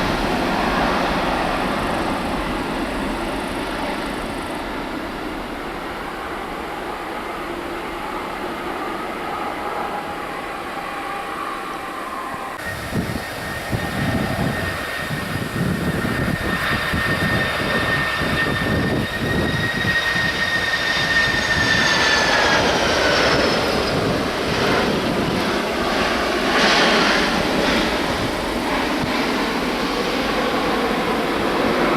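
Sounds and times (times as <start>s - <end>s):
jet airliner passing: 0.0s - 31.9s.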